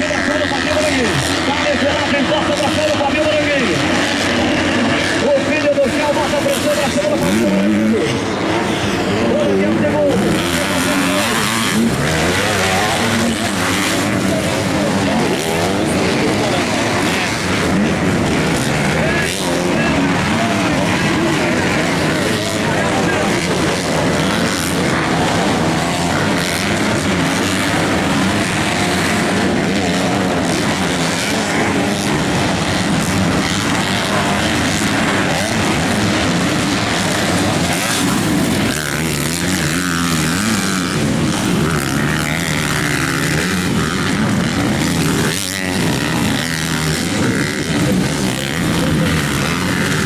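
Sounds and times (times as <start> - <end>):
motocross bike engines revving: 0.0 - 50.0.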